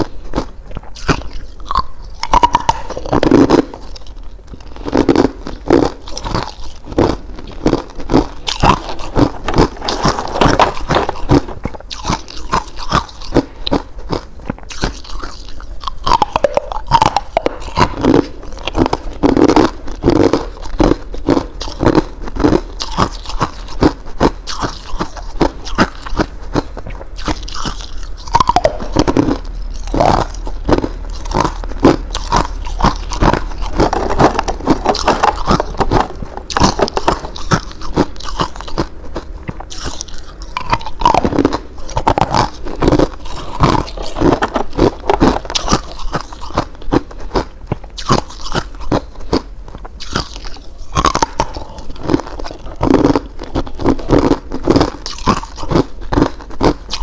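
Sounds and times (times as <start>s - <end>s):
ice crunching while chewed: 0.0s - 57.0s
steady low hum: 0.0s - 57.0s.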